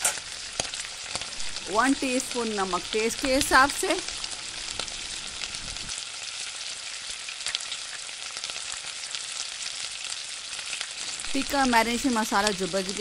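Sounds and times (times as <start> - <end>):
gravy sizzling in a pan: 0.0 - 13.0.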